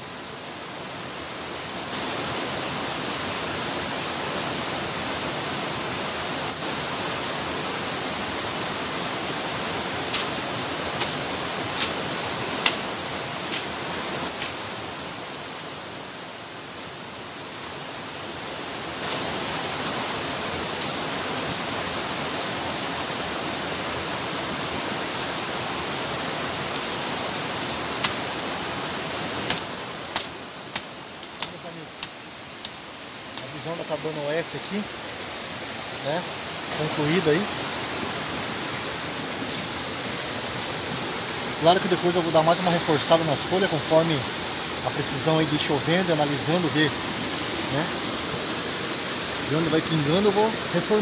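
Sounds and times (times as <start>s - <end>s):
rushing water of rapids: 0.0s - 51.0s.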